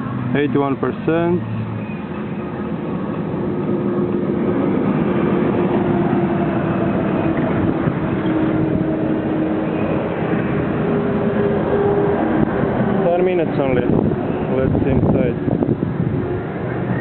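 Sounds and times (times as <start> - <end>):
charger fans droning: 0.0 - 17.0.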